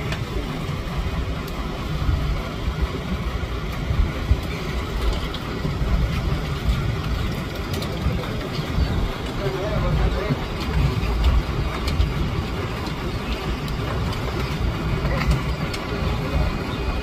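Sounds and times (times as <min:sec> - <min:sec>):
boat engine rumbling: 0:00.0 - 0:17.0
water noise: 0:00.0 - 0:17.0
wind: 0:00.0 - 0:17.0.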